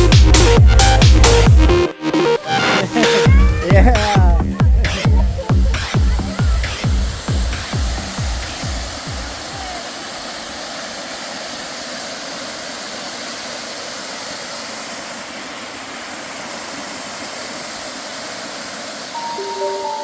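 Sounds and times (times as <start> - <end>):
waterfall rushing: 2.0 - 20.0.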